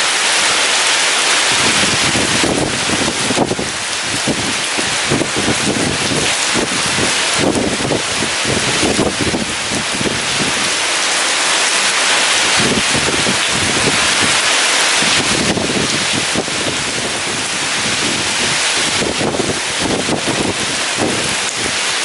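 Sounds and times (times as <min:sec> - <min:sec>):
heavy rain: 0:00.0 - 0:22.0
wind gusting: 0:00.0 - 0:22.0.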